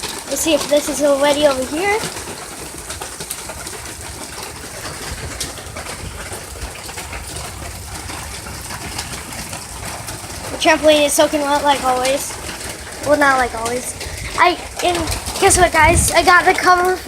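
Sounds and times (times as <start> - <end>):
heavy rain: 0.0 - 17.0
raindrops striking close by: 0.0 - 17.0.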